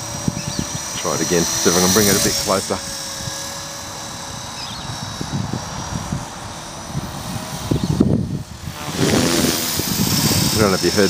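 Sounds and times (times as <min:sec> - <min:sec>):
helicopter rotor spinning: 0:00.0 - 0:11.0.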